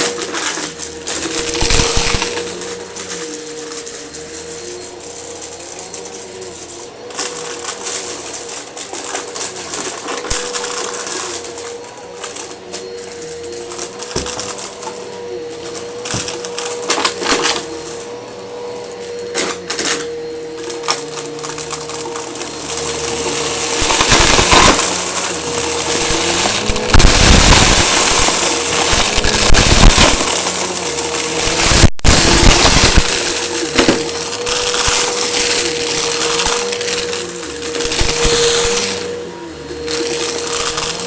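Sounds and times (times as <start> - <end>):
debris rattling through vacuum: 0.0 - 41.0
vacuum cleaner motor whine: 0.0 - 41.0.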